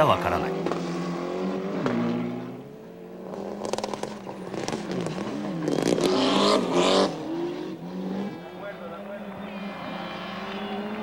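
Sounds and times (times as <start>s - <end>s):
rally car engines revving: 0.0s - 11.0s
engine crackles: 1.7s - 11.0s.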